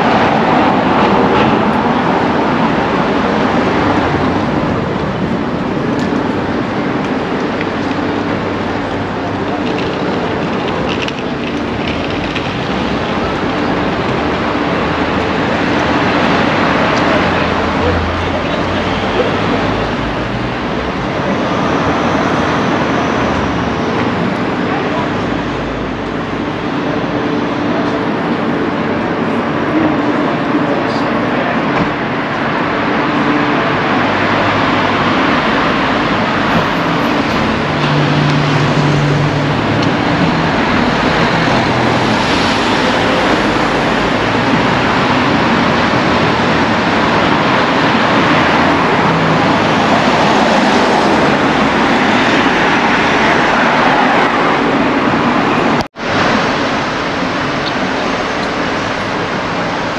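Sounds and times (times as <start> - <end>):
vehicles passing close by: 0.0 - 59.9.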